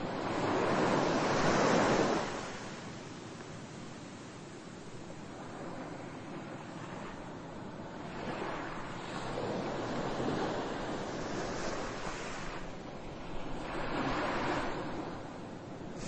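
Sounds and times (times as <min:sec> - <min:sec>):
rushing surf-like noise: 0:00.0 - 0:16.0.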